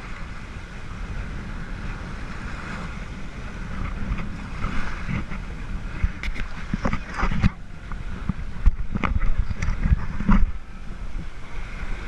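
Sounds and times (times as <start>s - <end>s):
boat engine and water rumble: 0.0s - 12.0s
wind buffeting microphone: 0.0s - 12.0s.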